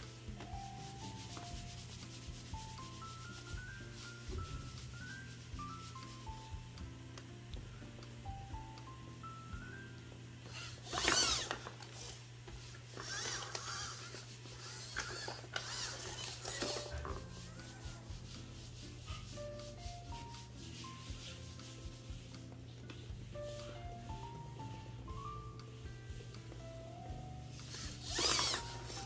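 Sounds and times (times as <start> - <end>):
background music: 0.0 - 11.0, 16.4 - 29.0.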